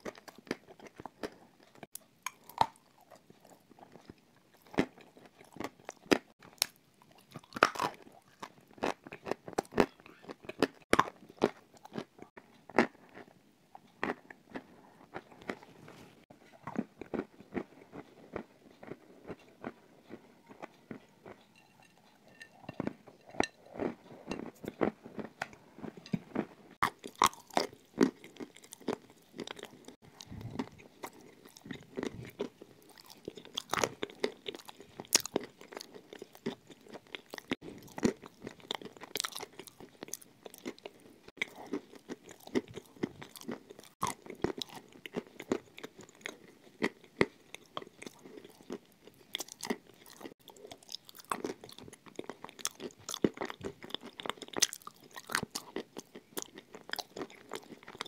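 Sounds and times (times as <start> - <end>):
chewing brittle clay crunches: 0.0 - 58.0.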